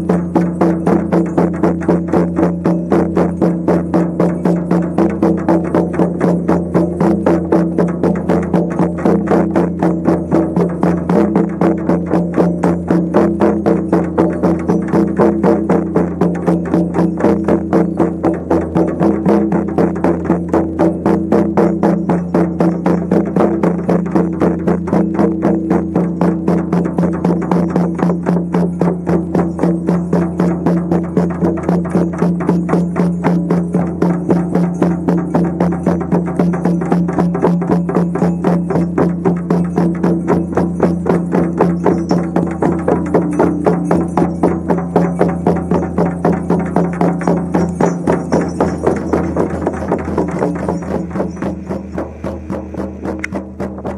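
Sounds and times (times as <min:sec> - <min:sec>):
frame drums beating: 0:00.0 - 0:53.9.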